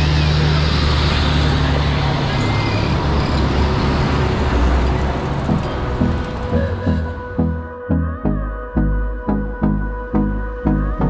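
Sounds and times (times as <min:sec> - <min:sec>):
tractor diesel engines rumbling: 0:00.0 - 0:11.0.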